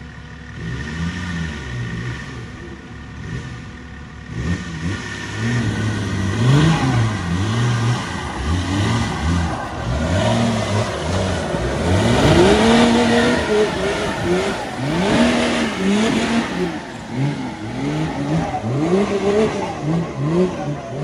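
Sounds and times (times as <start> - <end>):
diesel engine revving in bursts: 0.0 - 21.0.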